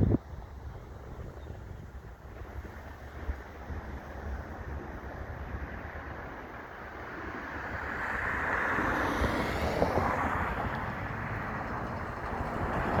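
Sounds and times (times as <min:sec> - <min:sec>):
wind buffeting microphone: 0:00.0 - 0:13.0
jet engines rushing by: 0:02.0 - 0:13.0.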